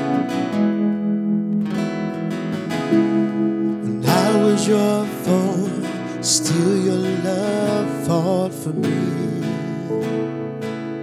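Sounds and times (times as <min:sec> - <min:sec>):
acoustic guitar strumming: 0:00.0 - 0:11.0
sustained keyboard chords: 0:00.0 - 0:11.0.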